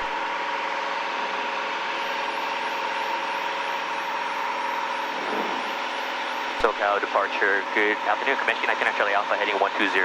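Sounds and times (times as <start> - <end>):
airplane engine drone in cabin: 0.0 - 10.0.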